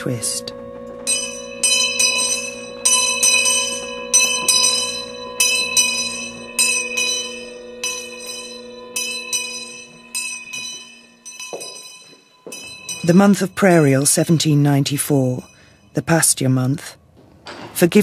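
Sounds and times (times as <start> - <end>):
low drone: 0.0 - 16.0
bells ringing: 0.0 - 16.8.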